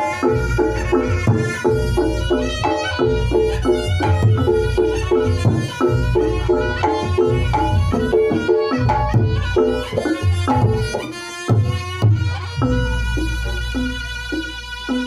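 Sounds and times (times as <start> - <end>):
hand drumming: 0.0 - 15.0
reedy melody: 0.0 - 15.0.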